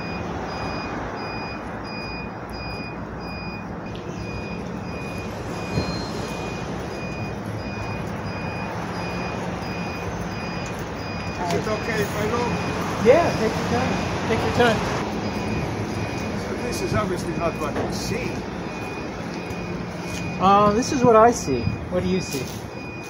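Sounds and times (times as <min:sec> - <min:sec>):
engine rumble: 0:00.0 - 0:23.0
truck back-up alarm beeping: 0:00.0 - 0:23.0.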